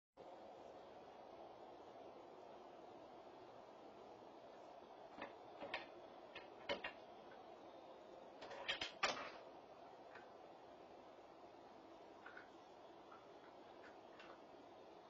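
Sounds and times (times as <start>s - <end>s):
steady low hiss: 0.2s - 15.0s.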